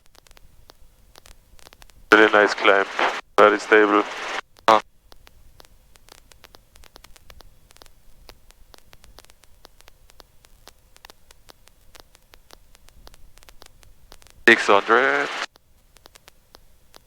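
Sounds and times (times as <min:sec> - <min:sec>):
crackling static clicks: 0:00.0 - 0:17.0.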